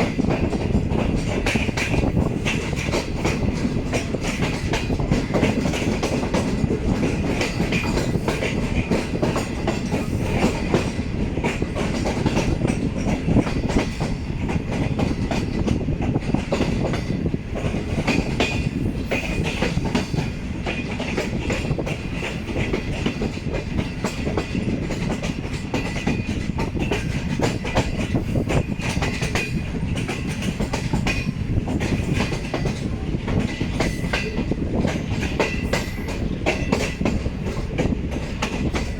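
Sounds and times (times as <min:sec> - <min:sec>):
train rumbling on rails: 0:00.0 - 0:38.9
wheels clicking over rail joints: 0:00.0 - 0:38.9.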